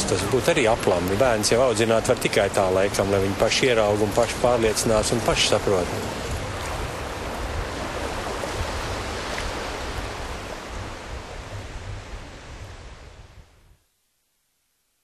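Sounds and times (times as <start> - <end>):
water rushing on shoreline: 0.0 - 13.5
low wind rumble: 0.0 - 13.8.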